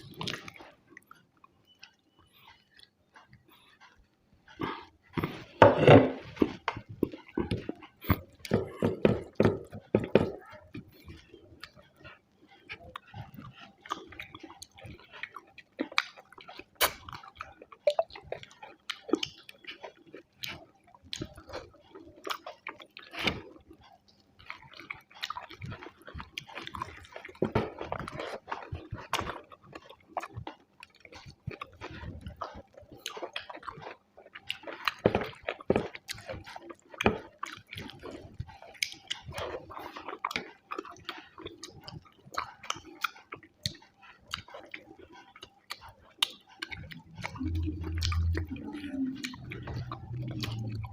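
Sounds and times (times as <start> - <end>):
person chewing and smacking: 0.0 - 50.9.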